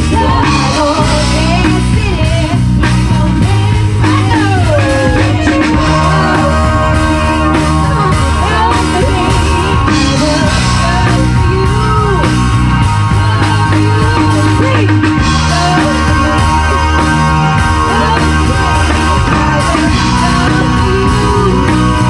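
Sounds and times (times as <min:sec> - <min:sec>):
rock band playing: 0:00.0 - 0:22.0
sliding melody line: 0:03.3 - 0:22.0.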